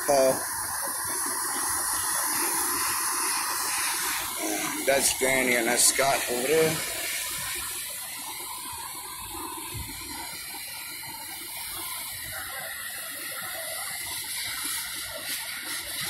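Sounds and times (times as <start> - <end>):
fire hose spraying water: 0.0 - 16.0.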